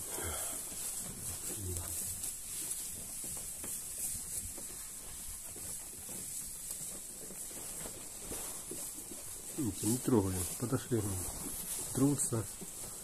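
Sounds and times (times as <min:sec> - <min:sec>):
sheep rubbing and nibbling: 0:00.0 - 0:13.0.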